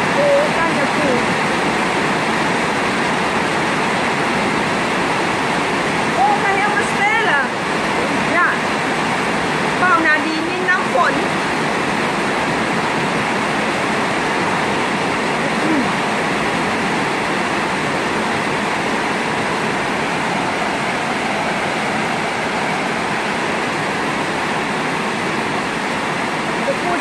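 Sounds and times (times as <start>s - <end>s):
rain pouring: 0.0s - 27.0s.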